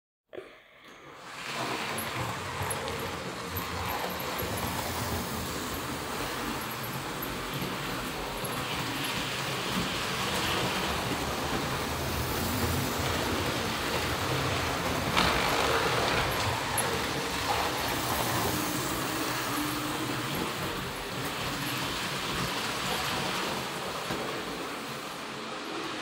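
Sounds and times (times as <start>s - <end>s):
model train whirring on track: 1.0s - 26.0s.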